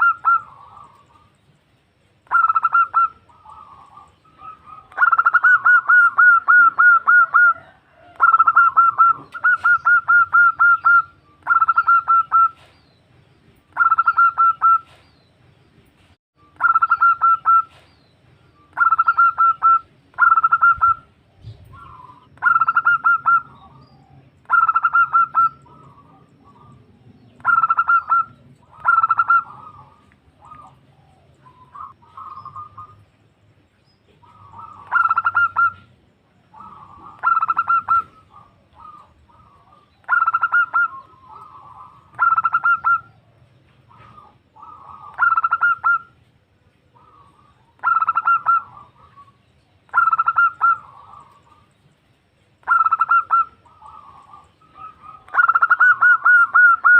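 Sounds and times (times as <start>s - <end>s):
dove cooing: 0.0s - 1.4s, 2.2s - 12.7s, 13.8s - 15.0s, 16.6s - 17.9s, 18.6s - 33.2s, 34.1s - 51.7s, 52.6s - 56.9s.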